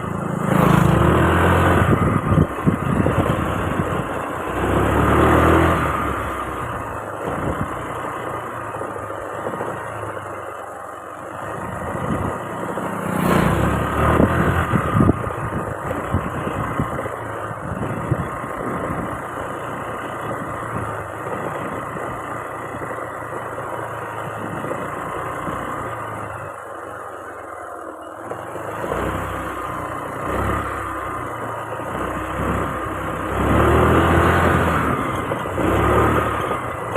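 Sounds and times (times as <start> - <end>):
motorcycle engine: 0.0 - 36.9
road noise: 0.0 - 36.9.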